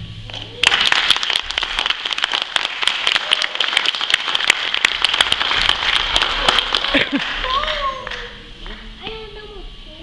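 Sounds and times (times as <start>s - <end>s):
loud single claps: 0.2s - 8.8s
audience applauding: 0.4s - 8.9s.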